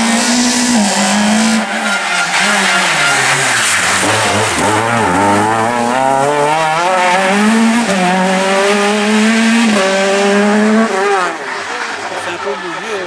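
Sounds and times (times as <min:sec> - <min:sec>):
rally car engine revving: 0:00.0 - 0:12.7.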